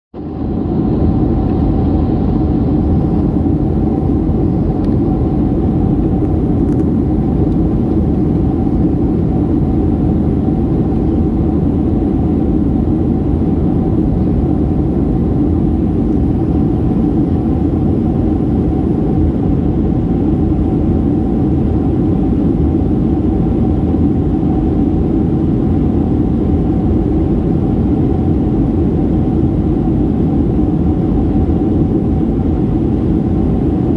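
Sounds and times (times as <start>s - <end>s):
airplane cabin airflow and engines: 0.1s - 33.9s.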